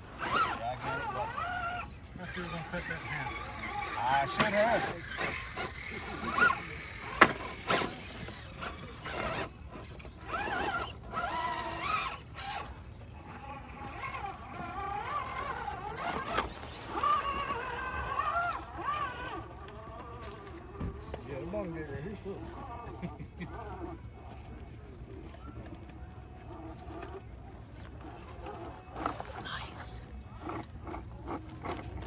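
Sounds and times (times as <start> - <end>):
electric motor and gears whining: 0.0 - 32.0.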